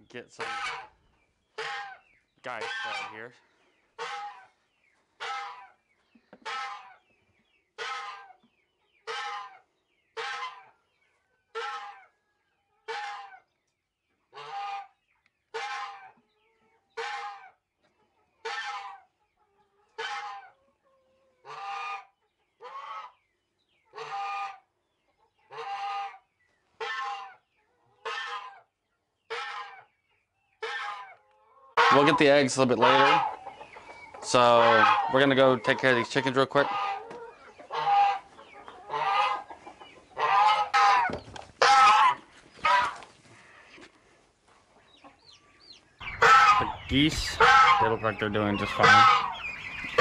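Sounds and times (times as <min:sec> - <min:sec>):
poultry squawking: 0:00.0 - 0:13.6, 0:14.2 - 0:50.0.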